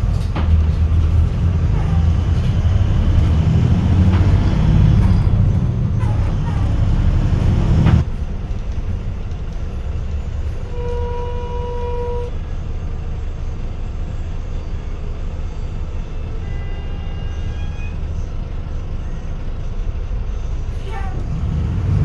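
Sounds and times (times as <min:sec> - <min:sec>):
bus diesel engine rumbling: 0:00.0 - 0:22.0.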